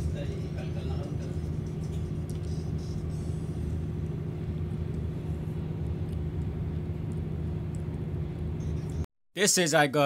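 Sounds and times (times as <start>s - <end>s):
road rumble: 0.0s - 9.1s
vehicle engine drone: 0.0s - 9.1s.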